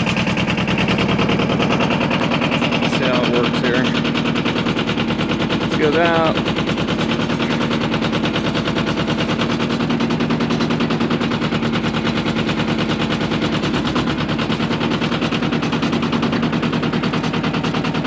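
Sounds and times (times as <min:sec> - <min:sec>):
diesel tractor engine knocking: 0:00.0 - 0:18.0.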